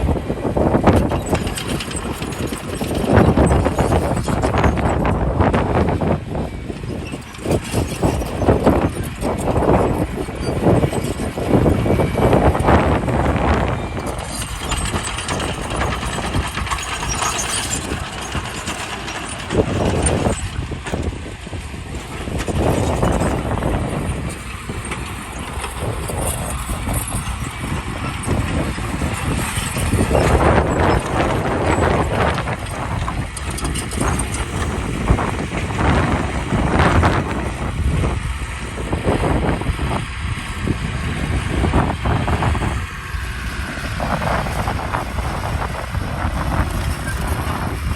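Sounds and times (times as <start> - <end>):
diesel engines of heavy machinery: 0.0 - 47.9.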